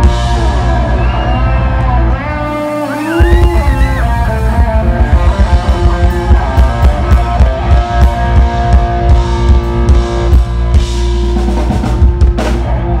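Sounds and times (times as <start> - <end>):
drum kit playing: 0.0 - 13.0
electric guitar lead: 0.0 - 13.0.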